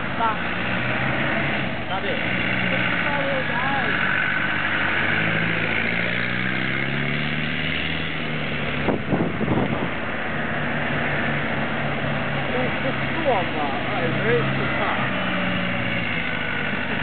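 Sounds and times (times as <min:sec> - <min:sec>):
diesel engine revving: 0:00.0 - 0:17.0
rough uneven bursts of noise: 0:00.0 - 0:17.0.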